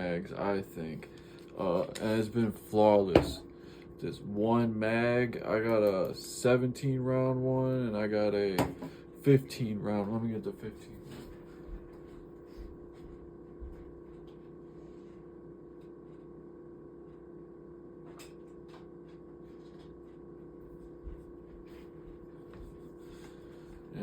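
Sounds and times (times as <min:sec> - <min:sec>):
room hum: 0:00.0 - 0:24.0.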